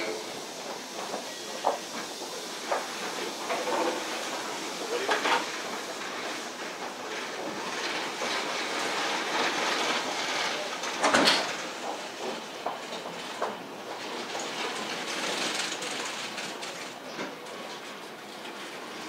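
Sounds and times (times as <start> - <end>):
train running rushing noise: 0.0 - 19.0.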